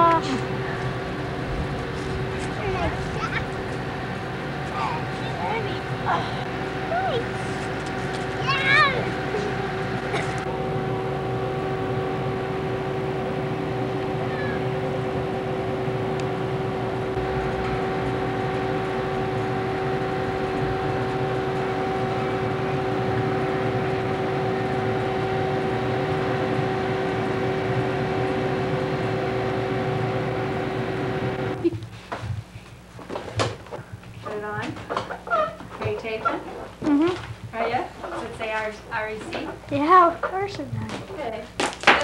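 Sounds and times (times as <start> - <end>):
hum of held tones: 0.0 - 32.8, 33.7 - 41.6.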